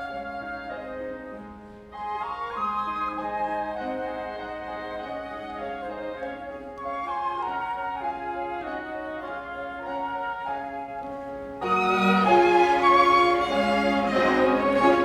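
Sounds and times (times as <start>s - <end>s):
flute melody: 0.0s - 15.0s
orchestra playing: 2.0s - 15.0s.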